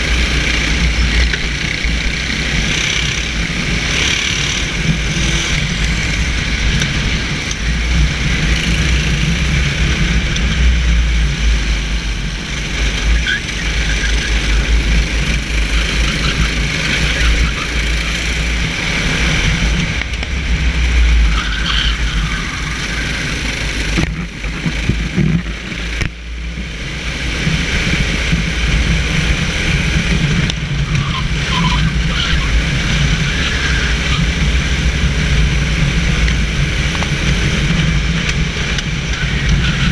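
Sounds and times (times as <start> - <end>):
kart engine running under load: 0.0 - 39.9.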